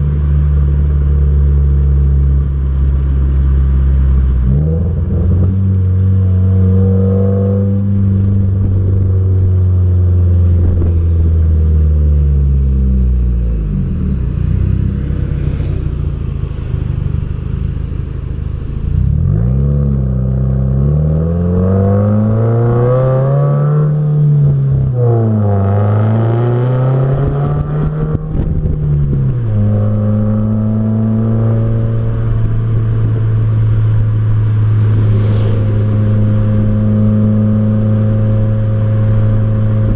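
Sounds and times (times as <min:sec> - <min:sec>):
car engine and exhaust: 0:00.0 - 0:39.9.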